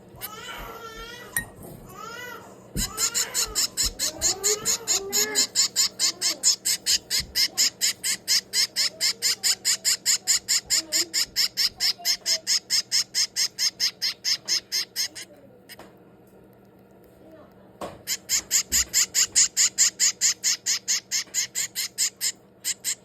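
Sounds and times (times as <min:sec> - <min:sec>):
baby bird begging calls: 0:02.1 - 0:15.8, 0:18.0 - 0:23.0.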